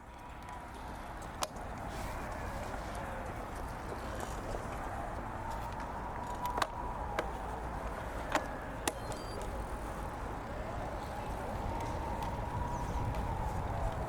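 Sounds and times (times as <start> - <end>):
bicycle tyre and wind rumble: 0.0 - 14.0.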